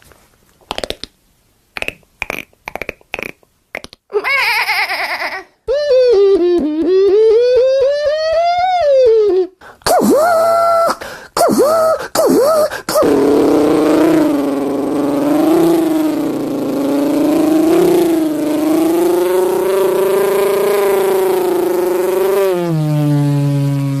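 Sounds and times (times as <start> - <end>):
person imitating car engine: 1.8 - 24.0.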